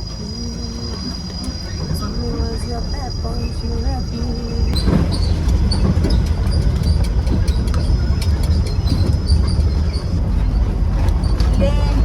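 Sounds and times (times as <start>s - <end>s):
quad bike engines rumbling: 0.0s - 12.0s
rattles and clicks: 0.0s - 12.0s.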